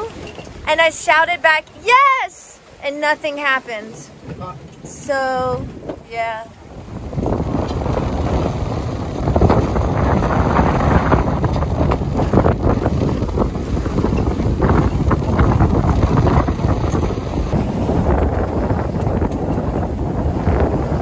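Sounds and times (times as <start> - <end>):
water rushing along hull: 0.0 - 21.0
strong wind buffeting microphone: 3.9 - 21.0.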